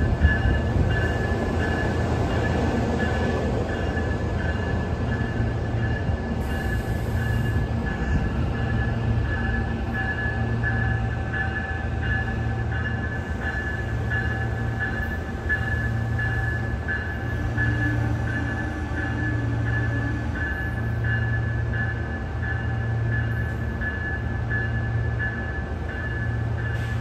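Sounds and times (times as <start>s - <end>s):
electric train humming: 0.0s - 27.0s.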